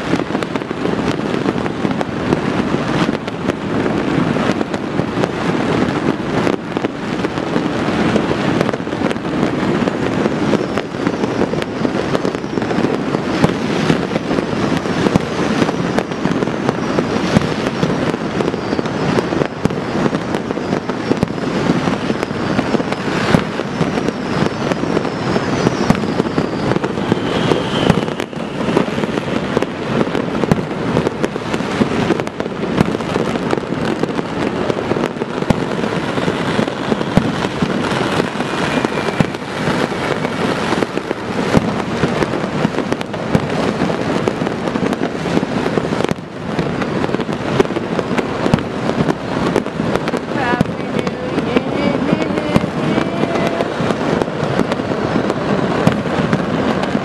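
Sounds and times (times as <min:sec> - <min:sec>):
fireworks and firecrackers banging: 0:00.0 - 0:57.0
fireworks whistling: 0:00.0 - 0:57.0.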